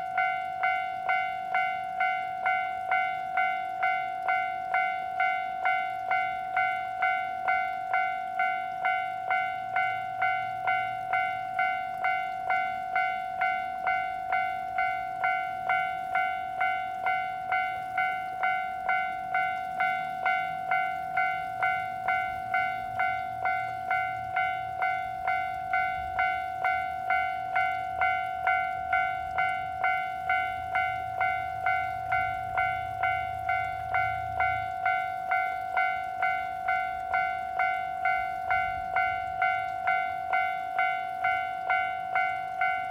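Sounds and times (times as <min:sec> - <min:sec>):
level crossing warning bell ringing: 0:00.0 - 0:42.9.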